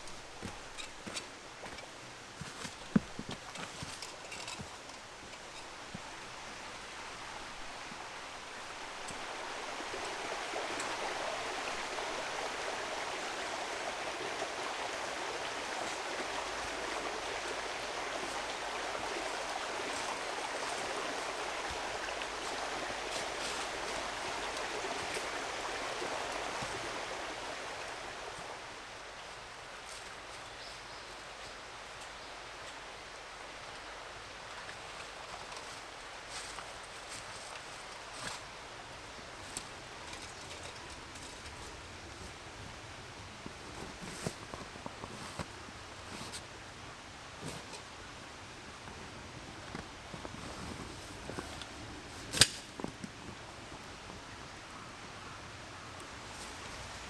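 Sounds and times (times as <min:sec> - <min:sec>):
mountain stream rushing: 0:00.0 - 0:57.0.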